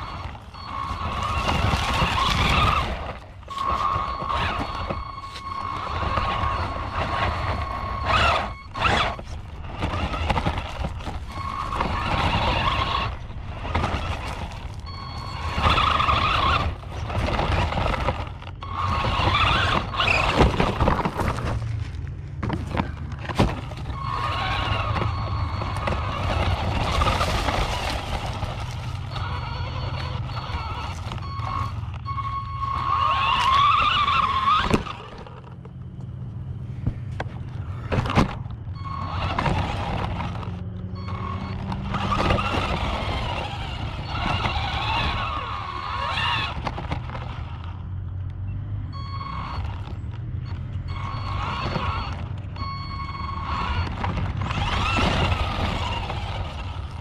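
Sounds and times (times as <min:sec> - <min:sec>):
electric motor whining: 0:00.0 - 0:21.6, 0:23.1 - 0:36.1, 0:37.1 - 0:47.7, 0:50.9 - 0:57.0
toy truck rumbling over dirt: 0:00.0 - 0:57.0.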